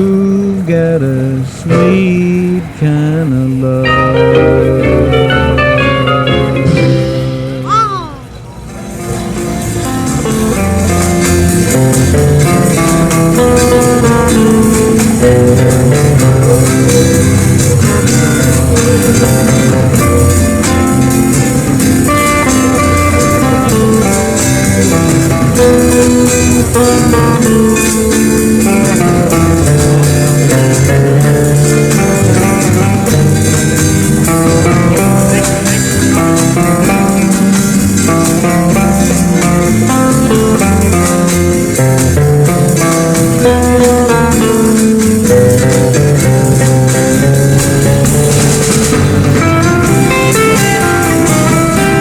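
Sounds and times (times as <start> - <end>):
rock and roll instrumental music: 3.6 - 52.0.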